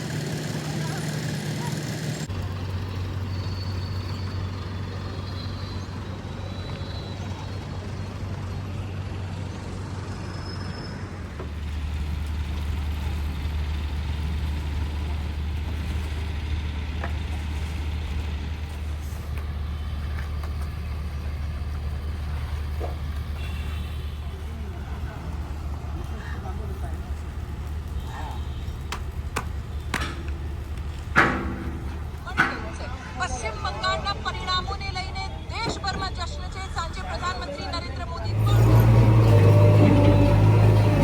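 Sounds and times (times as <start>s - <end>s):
heavy diesel engine droning: 0.0s - 41.0s.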